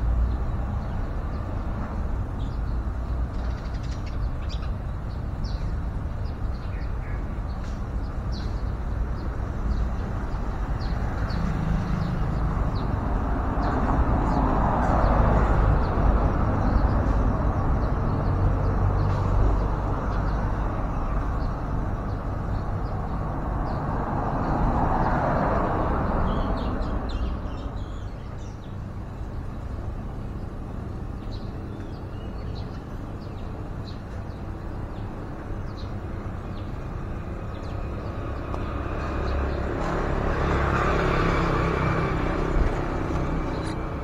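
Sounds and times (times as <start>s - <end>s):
road traffic passing: 0.0s - 44.0s.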